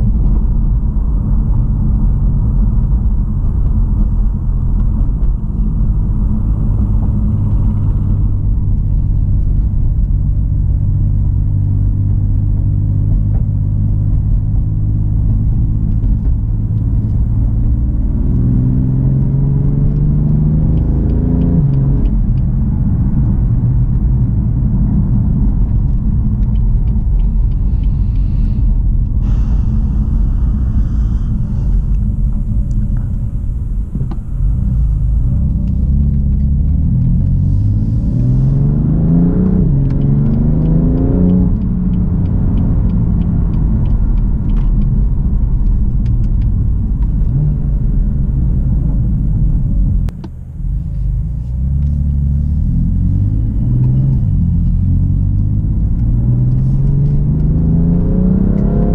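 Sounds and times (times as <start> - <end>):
car engine accelerating: 0.0 - 58.9
car road rumble: 0.0 - 58.9.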